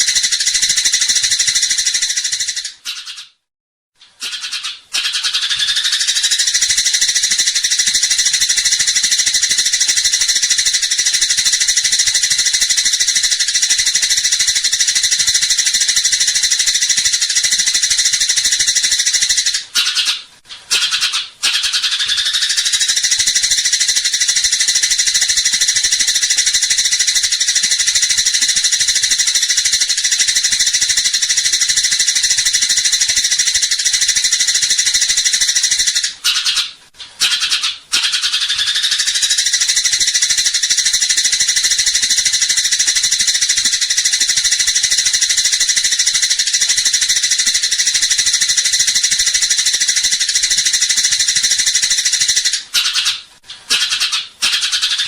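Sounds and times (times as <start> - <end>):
sparrows chattering: 0.0 - 3.4, 4.2 - 55.0.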